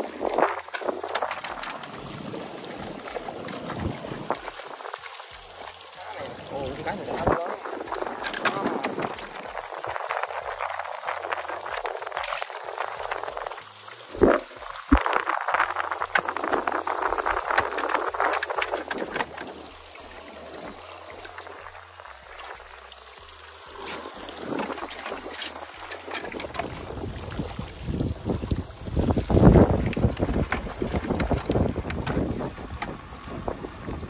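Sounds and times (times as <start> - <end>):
water splashing and trickling: 0.0 - 34.0.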